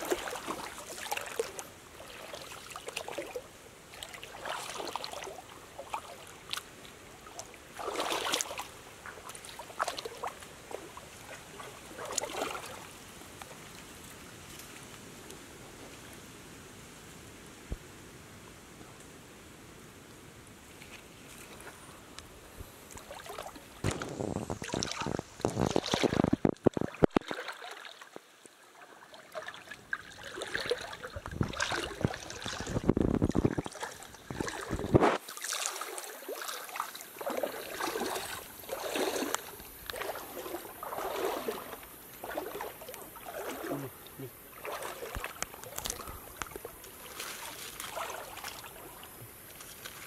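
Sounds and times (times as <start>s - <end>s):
splashing in a stream: 0.0s - 15.9s, 20.9s - 50.0s
rustling wet leaves: 0.0s - 50.0s.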